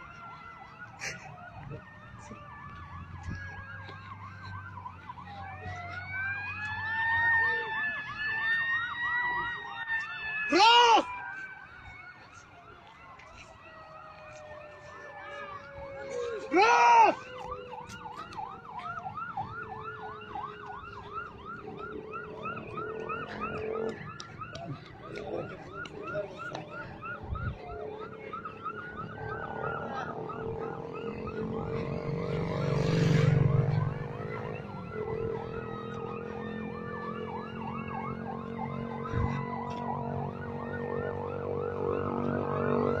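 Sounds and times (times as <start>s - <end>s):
siren yelping: 0.0s - 43.0s
sirens wailing: 0.0s - 43.0s.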